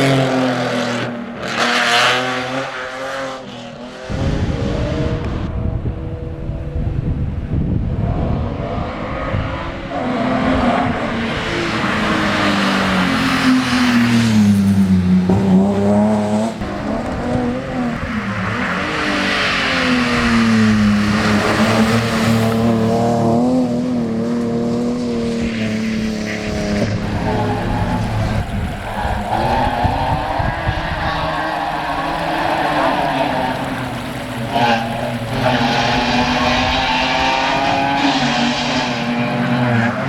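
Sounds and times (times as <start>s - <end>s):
rally car engine accelerating: 0.0s - 40.0s.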